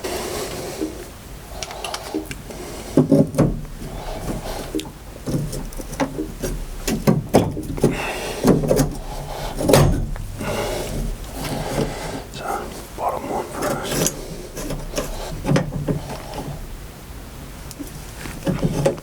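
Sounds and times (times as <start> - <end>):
irregular knocks and clunks: 1.6 - 19.0.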